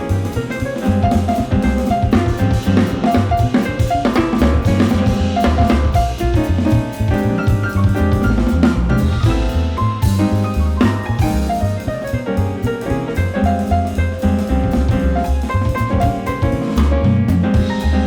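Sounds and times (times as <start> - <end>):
drum kit: 0.0 - 18.0
jazz band playing: 0.0 - 18.0.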